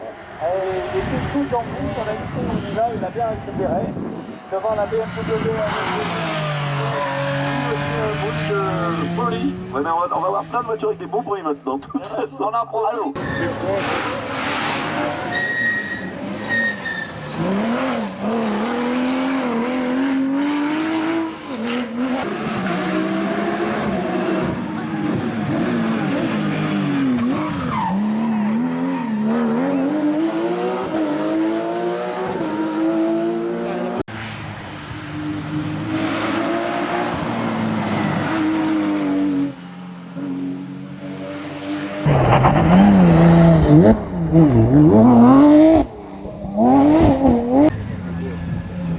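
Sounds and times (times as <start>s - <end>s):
race car engine accelerating: 3.9s - 11.0s, 13.2s - 39.6s, 40.2s - 48.9s.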